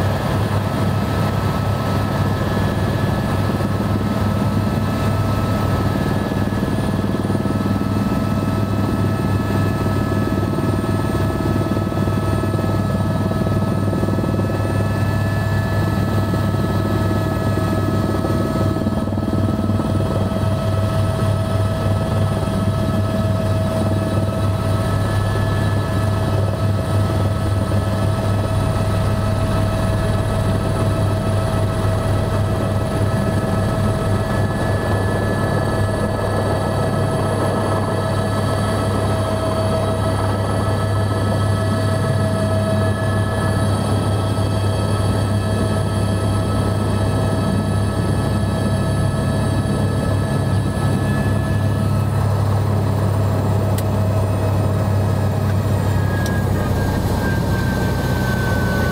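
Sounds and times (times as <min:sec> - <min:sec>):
helicopter engine and rotors: 0:00.0 - 0:58.9.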